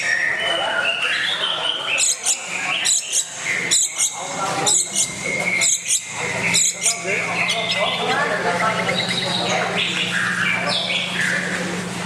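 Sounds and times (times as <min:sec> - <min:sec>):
sharp high bird notes: 0:00.0 - 0:11.6
bird singing warbling calls: 0:00.0 - 0:12.0.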